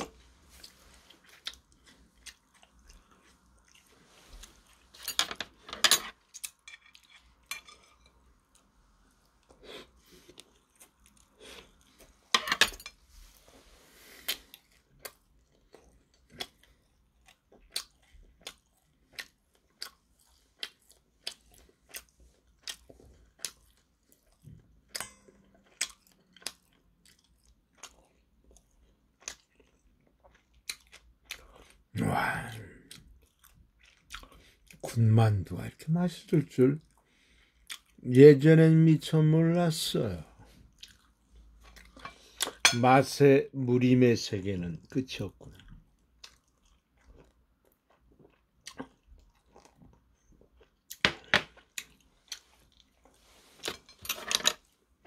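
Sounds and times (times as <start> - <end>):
person chewing crunchy food: 0.0 - 12.3, 13.2 - 34.9, 36.8 - 38.0, 40.4 - 42.6, 45.4 - 53.9.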